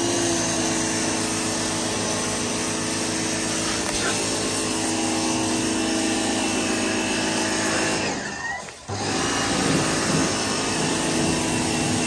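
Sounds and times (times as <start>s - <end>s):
pressure washer running: 0.0s - 12.0s
water jet spraying: 0.0s - 12.0s.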